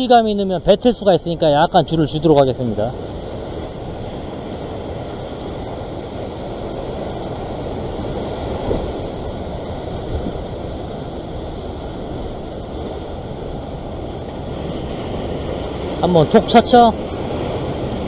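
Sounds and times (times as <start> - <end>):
ocean surf against rocks: 0.0 - 18.0
wind buffeting the microphone: 1.2 - 18.0.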